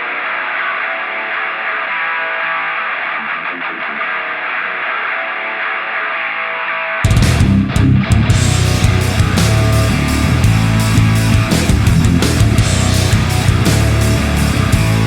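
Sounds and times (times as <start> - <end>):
full rock band with distorted guitar: 0.0 - 15.0
rock music with electric guitar: 0.0 - 15.0.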